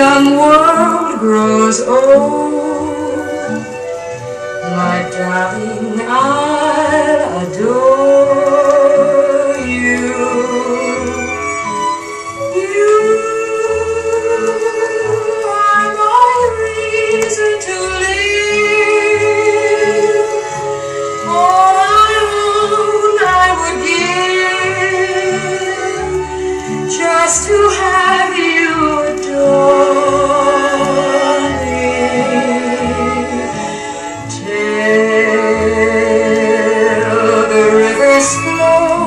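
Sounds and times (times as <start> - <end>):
person singing a ballad: 0.0 - 3.8, 4.6 - 39.0
orchestral backing: 0.0 - 39.0.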